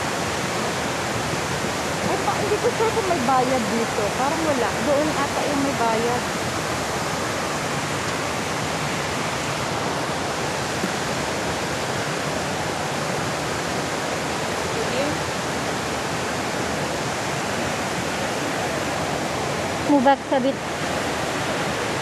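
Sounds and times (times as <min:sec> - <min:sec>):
indoor waterfall roaring: 0:00.0 - 0:22.0.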